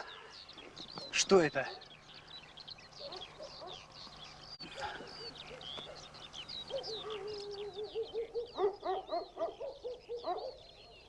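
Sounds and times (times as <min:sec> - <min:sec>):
high bird chirps and trills: 0:00.0 - 0:11.0
lower bird call: 0:00.0 - 0:11.0.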